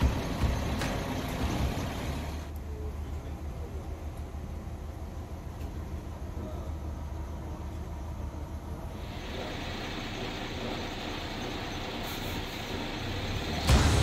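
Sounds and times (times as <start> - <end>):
moving vehicle rumble and hiss: 0.0 - 14.0.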